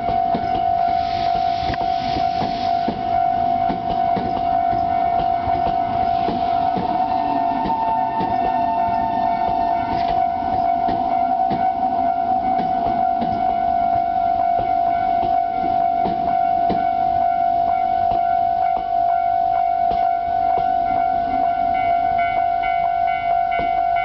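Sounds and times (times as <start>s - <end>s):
level crossing alarm bell: 0.0s - 24.0s
train wheels clicking: 0.0s - 24.0s.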